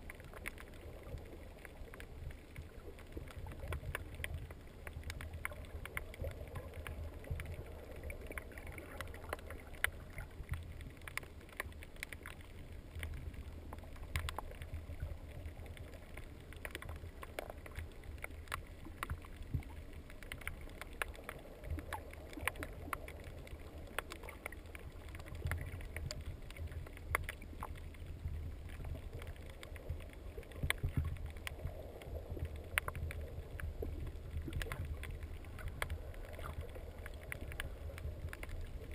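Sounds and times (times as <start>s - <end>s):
muffled underwater water rumble: 0.0s - 38.9s
sharp underwater clicks and crackles: 0.0s - 38.9s.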